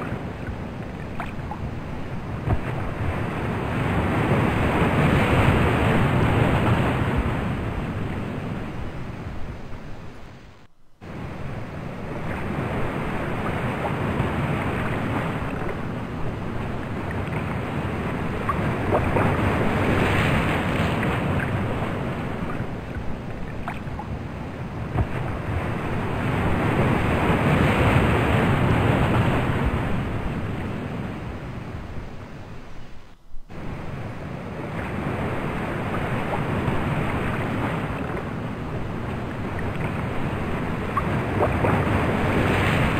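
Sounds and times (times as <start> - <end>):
ocean waves washing in: 0.0 - 42.9.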